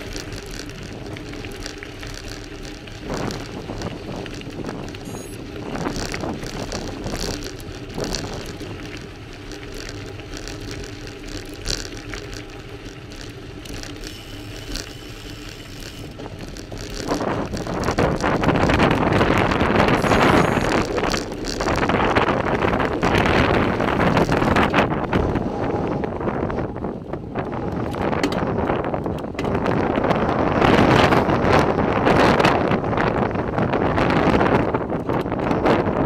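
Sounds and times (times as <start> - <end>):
bicycle tyres crunching on gravel: 0.0 - 36.0
bike rattling: 0.0 - 36.0
wind buffeting microphone: 0.0 - 36.0.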